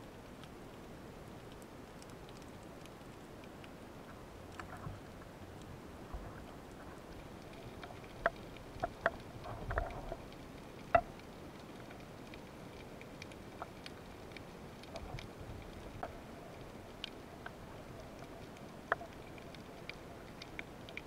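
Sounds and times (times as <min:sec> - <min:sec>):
fine crackling ticks: 0:00.2 - 0:21.0.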